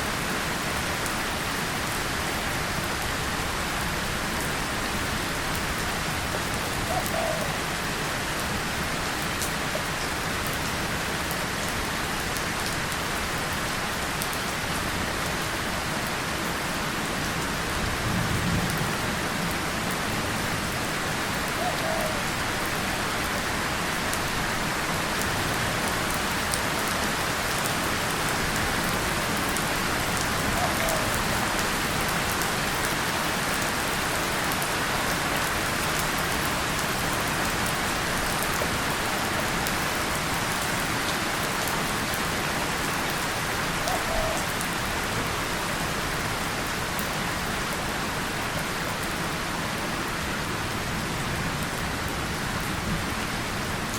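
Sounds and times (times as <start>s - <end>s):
rain on tin and leaves: 0.0s - 53.9s.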